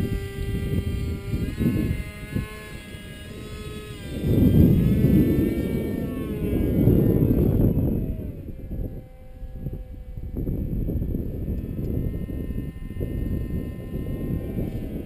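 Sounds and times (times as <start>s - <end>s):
model jet motor whine: 0.0s - 15.0s
wind buffeting microphone: 0.0s - 15.0s.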